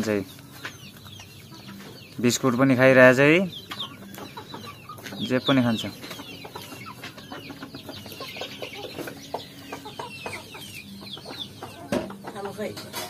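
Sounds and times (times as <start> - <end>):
hens and roosters clucking: 0.0 - 13.0.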